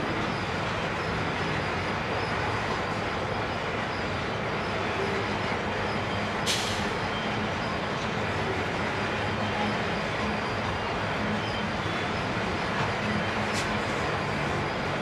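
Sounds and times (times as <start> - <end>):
diesel locomotive drone: 0.0 - 15.0
train wagons rumbling on rails: 0.0 - 15.0.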